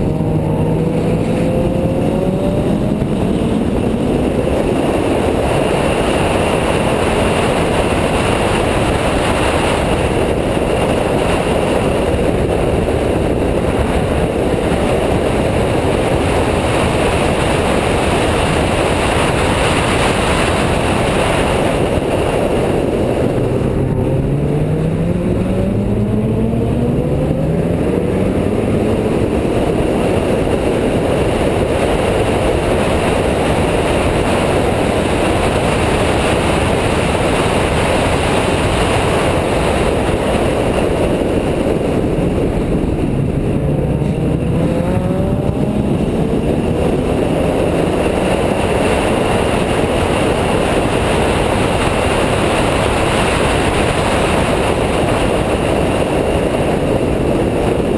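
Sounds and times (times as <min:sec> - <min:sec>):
car engine accelerating: 0:00.0 - 0:57.9
wind noise: 0:00.0 - 0:57.9.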